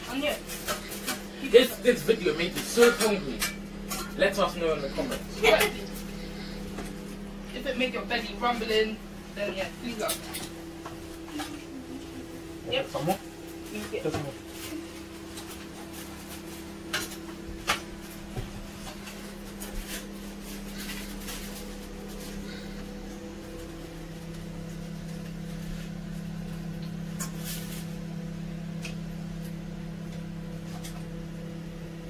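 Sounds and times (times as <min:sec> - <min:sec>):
steady appliance hum: 0:00.0 - 0:32.0.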